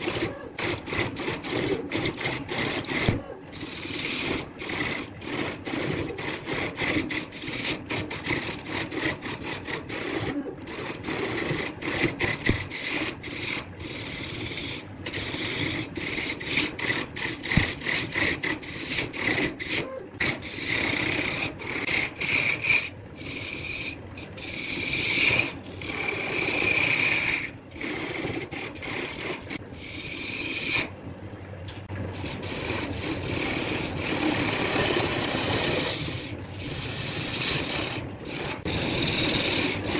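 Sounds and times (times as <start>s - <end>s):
wood lathe tool scraping: 0.0s - 30.9s, 31.7s - 39.9s.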